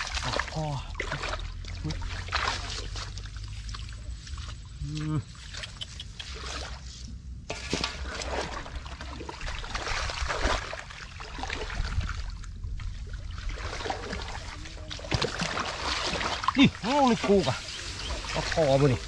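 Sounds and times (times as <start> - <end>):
hands squelching in wet mud: 0.0 - 19.0.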